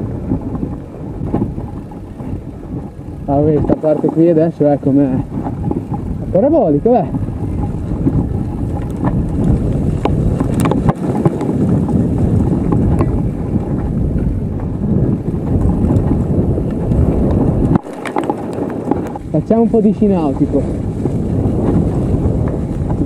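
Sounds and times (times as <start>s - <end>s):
bike rattling over bumps: 0.0s - 23.0s
wind buffeting microphone: 0.0s - 23.0s.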